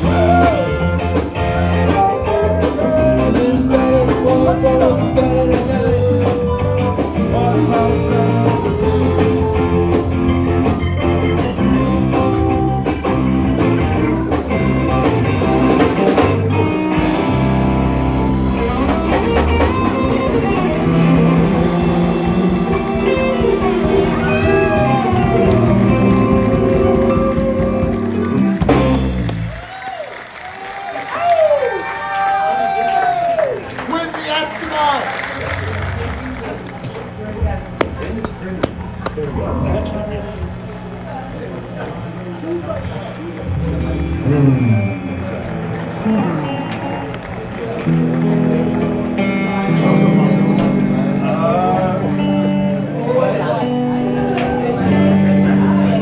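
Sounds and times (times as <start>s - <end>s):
electric guitar lead: 0.0s - 29.8s, 33.4s - 56.0s
bass guitar: 0.0s - 30.5s, 32.5s - 56.0s
drums: 0.0s - 56.0s.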